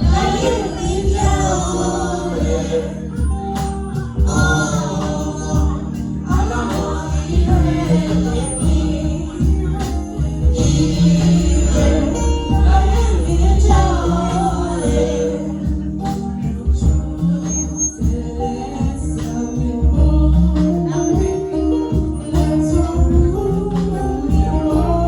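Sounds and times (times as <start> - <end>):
band accompaniment with bass: 0.0 - 25.0
children's choir singing gospel: 0.0 - 25.0
steady percussion: 0.0 - 25.0.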